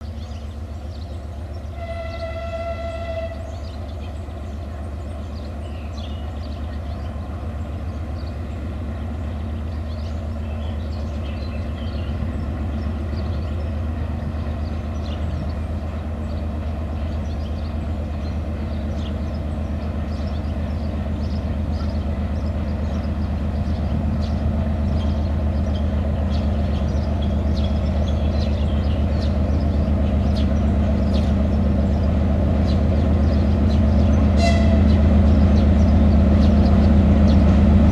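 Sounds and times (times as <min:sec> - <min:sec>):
diesel locomotive engine drone: 0:00.0 - 0:37.9.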